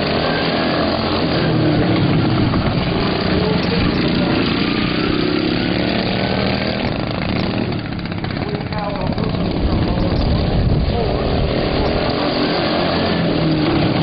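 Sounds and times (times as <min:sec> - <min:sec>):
small engines running hard: 0:00.0 - 0:14.0.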